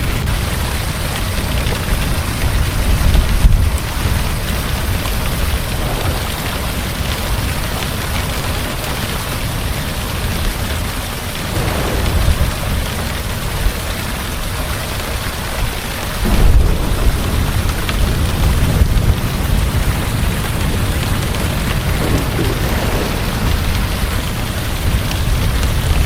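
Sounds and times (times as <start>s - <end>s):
heavy rain falling: 0.0s - 26.0s
low rumble of thunder: 1.4s - 26.0s.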